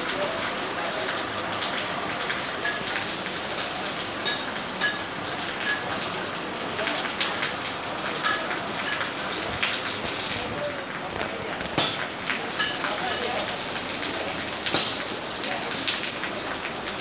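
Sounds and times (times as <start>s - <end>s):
heavy rain on street: 0.0s - 17.0s.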